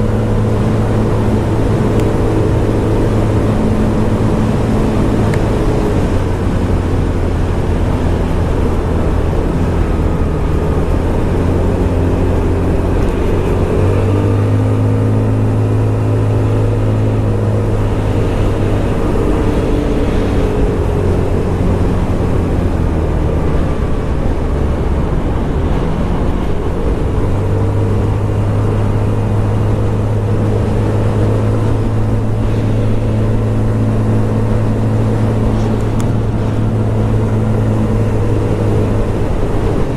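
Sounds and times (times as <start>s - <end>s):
rush of noise: 0.0s - 39.9s
scooter engine running: 0.0s - 39.9s.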